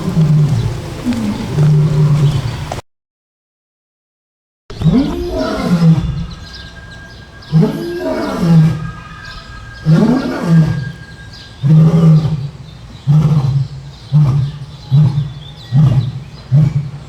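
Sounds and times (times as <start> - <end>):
lion roaring: 0.0 - 2.6, 4.7 - 17.0.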